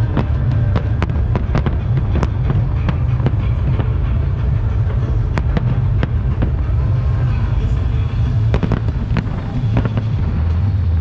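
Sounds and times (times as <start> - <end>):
fireworks popping and cracking: 0.0 - 11.0
low rumble: 0.0 - 11.0.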